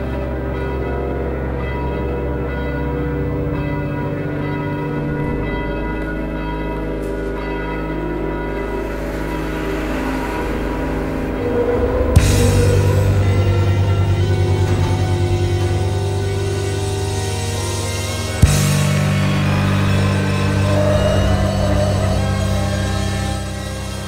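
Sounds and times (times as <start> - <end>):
bell-like ringing tones: 0.0 - 24.0
low drone: 0.0 - 24.0.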